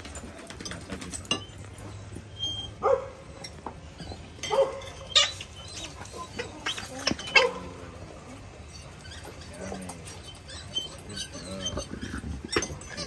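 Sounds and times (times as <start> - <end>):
dogs whining and yipping: 0.0 - 13.0.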